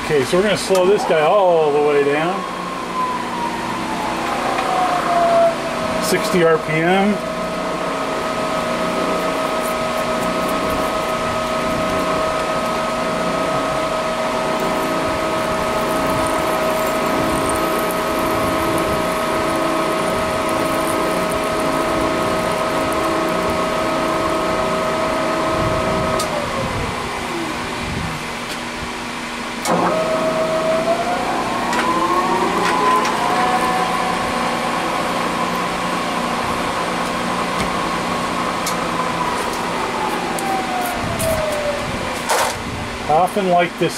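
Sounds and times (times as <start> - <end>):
motor whine: 0.0 - 43.2.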